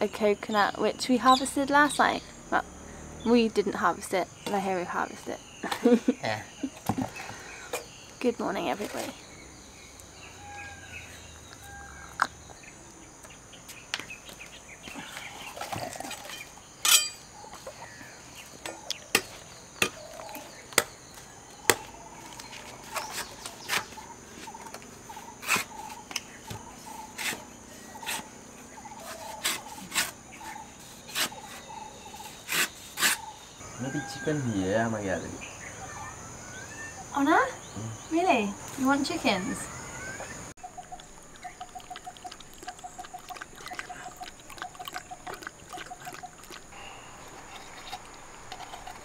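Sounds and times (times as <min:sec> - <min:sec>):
bird calls: 0:00.0 - 0:49.0
insects droning: 0:00.0 - 0:49.0.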